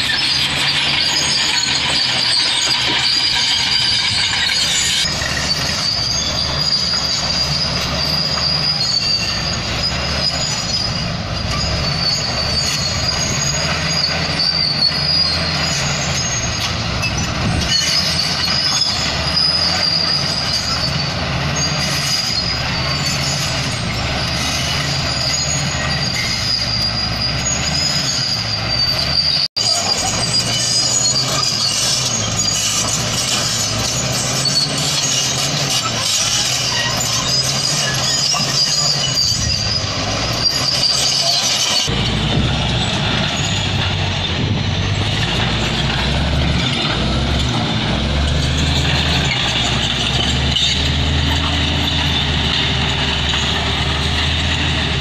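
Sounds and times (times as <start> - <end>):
bulldozer diesel engine running: 0.0 - 55.0
high-pitched squeal of steel tracks: 0.0 - 55.0.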